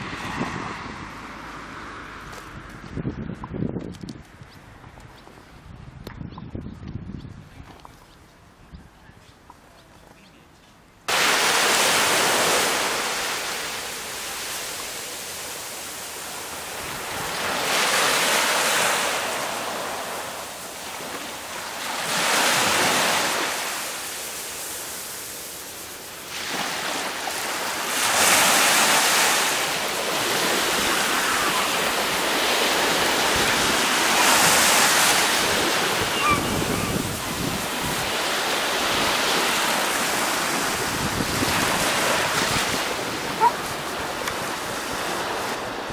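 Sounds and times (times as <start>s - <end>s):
waves washing on a beach: 0.0s - 2.4s, 11.1s - 45.9s.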